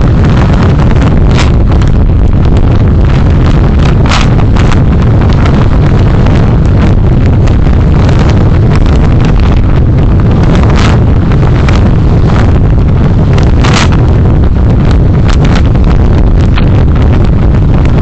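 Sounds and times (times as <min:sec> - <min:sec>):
engine and road noise: 0:00.0 - 0:18.0.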